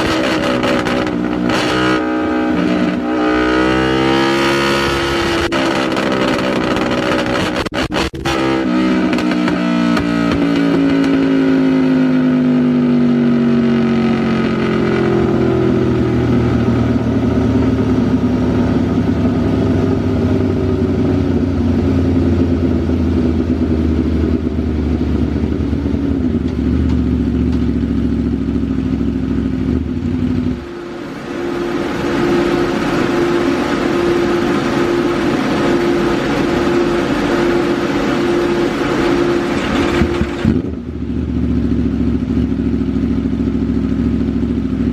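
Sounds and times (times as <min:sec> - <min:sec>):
motorcycle engine revving on a dyno: 0:00.0 - 0:44.9.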